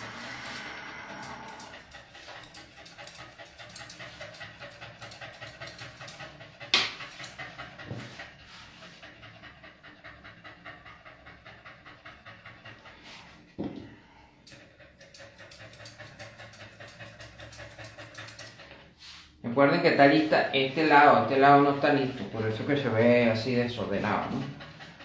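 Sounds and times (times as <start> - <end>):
dog panting: 0.0 - 25.0.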